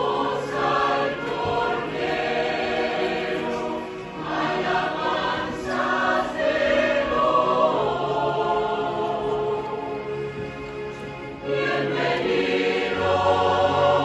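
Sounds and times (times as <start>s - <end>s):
church choir singing a hymn: 0.0s - 10.1s, 11.4s - 14.0s.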